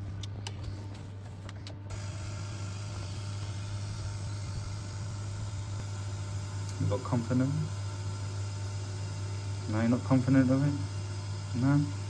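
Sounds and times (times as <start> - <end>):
toilet cistern filling hiss: 1.9 - 12.0.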